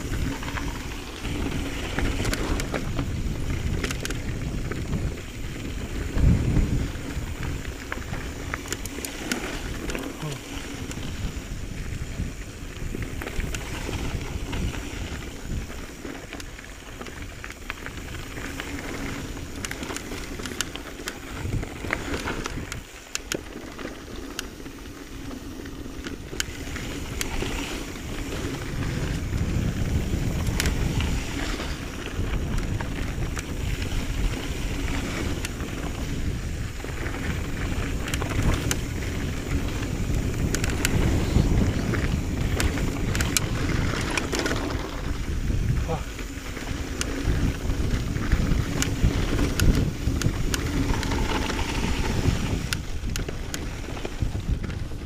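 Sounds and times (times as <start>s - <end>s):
bike clicks and rattles: 0.0s - 55.0s
tyres rolling on dirt and gravel: 0.0s - 55.0s
wind rushing over microphone: 0.0s - 55.0s.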